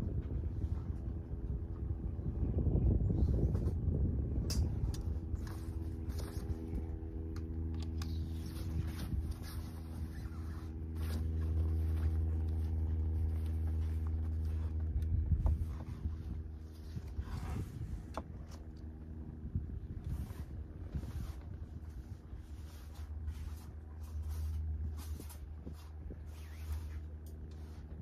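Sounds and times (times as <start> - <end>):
idling engine hum: 0.0 - 28.0
zips being worked: 4.3 - 28.0
tent canvas rustling: 5.1 - 28.0.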